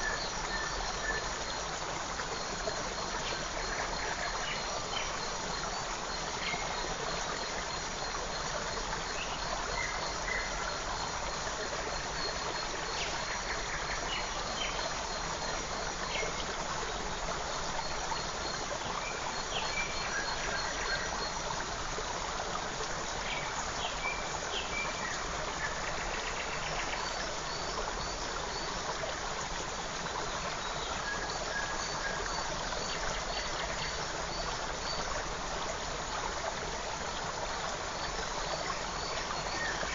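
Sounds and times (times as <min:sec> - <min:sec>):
forest creek running: 0:00.0 - 0:39.9.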